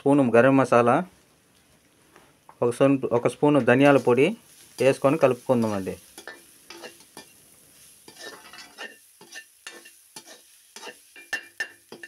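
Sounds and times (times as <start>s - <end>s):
faint sizzle of frying: 0.0s - 12.0s.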